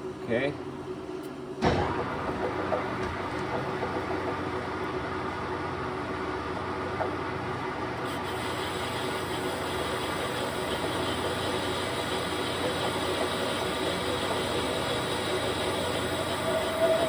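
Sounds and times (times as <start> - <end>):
lathe humming: 1.9 - 17.0.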